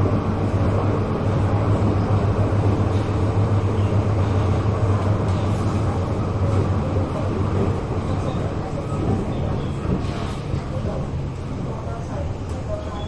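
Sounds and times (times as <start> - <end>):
low train hum: 0.0 - 13.0
train rumbling on track: 0.0 - 13.0.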